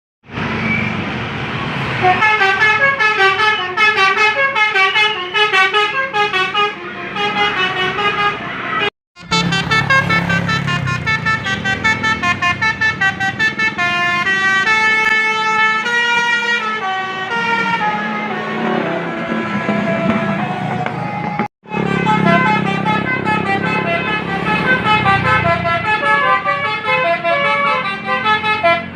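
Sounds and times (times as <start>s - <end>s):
bus engine rumble: 0.3s - 28.9s
multi-tone horn tune: 2.0s - 20.8s, 21.7s - 28.9s.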